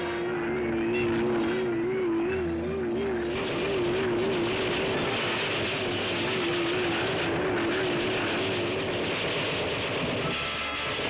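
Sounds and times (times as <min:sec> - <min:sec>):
rushing roar: 0:00.0 - 0:11.0
warbling whining tone: 0:00.2 - 0:10.4.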